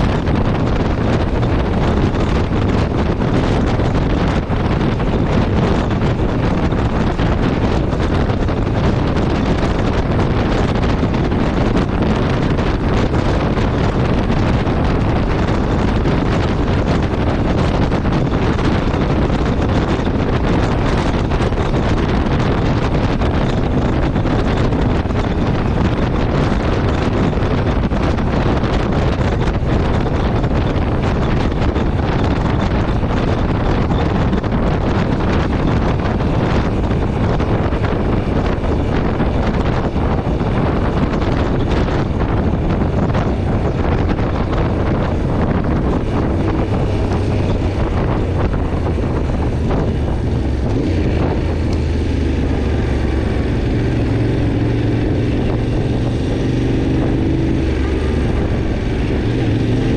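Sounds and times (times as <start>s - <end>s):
motorcycle engine: 0.0s - 59.9s
wind buffeting microphone: 0.0s - 59.9s.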